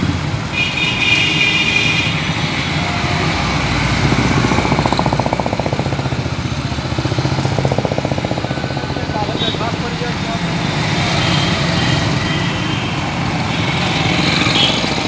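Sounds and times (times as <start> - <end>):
motorcycles passing: 0.0 - 15.0
traffic noise: 0.0 - 15.0.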